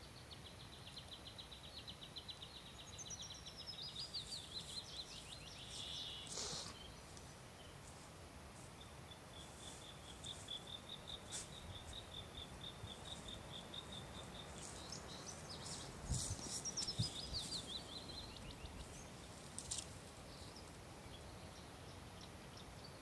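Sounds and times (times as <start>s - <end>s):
songbirds trilling: 0.0s - 23.0s.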